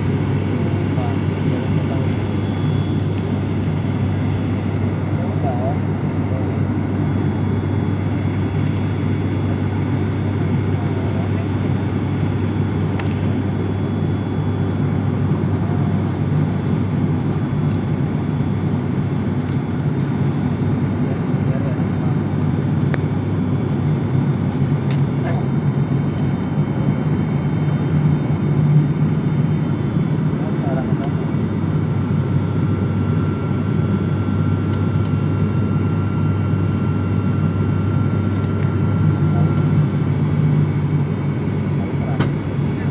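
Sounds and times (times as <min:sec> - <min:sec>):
airliner engines droning: 0:00.0 - 0:42.9.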